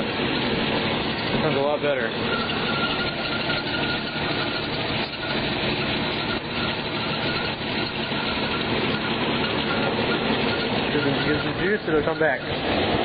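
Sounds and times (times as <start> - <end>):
car engine idling: 0.0 - 13.0
drive belt squeal: 0.0 - 13.0.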